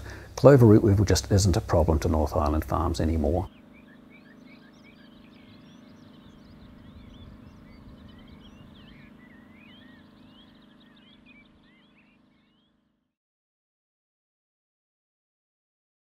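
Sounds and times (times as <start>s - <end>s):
low steady hum: 0.0s - 13.1s
small birds chirping: 0.0s - 13.1s.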